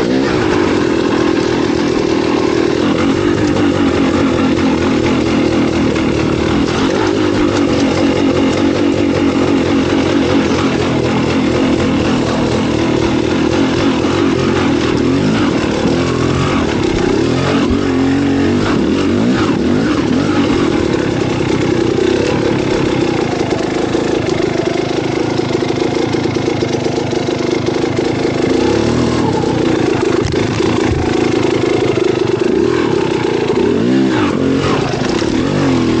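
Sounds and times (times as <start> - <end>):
wind and road noise: 0.0 - 24.6, 28.4 - 36.0
vehicle engine running: 0.0 - 36.0.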